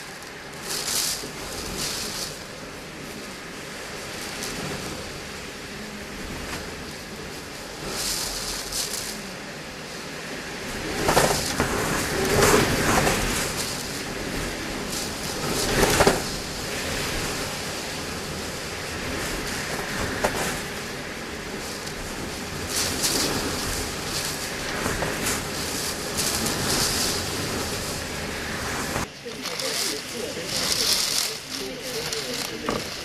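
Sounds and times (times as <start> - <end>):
wind and rain rushing: 0.0 - 33.0.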